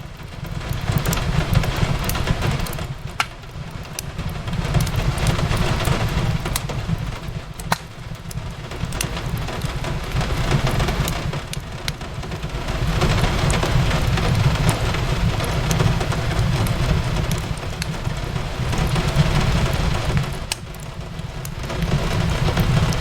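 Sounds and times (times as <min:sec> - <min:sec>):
rain on a window: 0:00.0 - 0:23.0
fireplace crackling: 0:00.3 - 0:12.2, 0:12.8 - 0:23.0
burning wood popping: 0:00.3 - 0:23.0.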